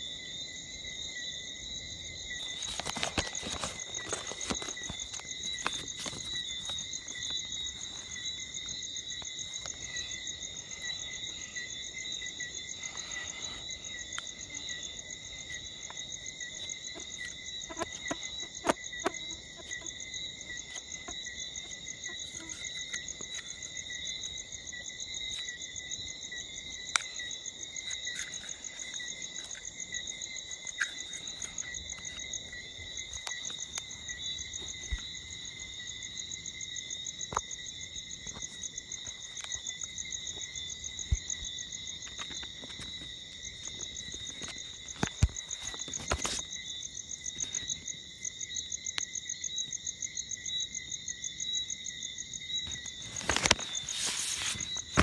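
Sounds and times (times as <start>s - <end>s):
frogs or insects trilling: 0.0s - 55.0s.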